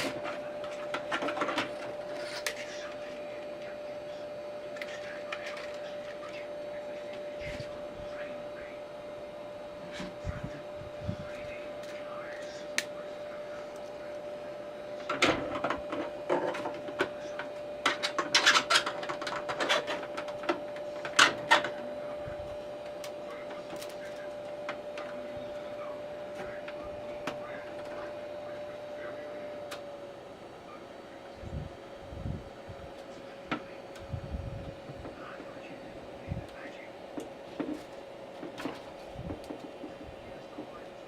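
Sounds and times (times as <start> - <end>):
three-d printer humming: 0.0 - 41.0.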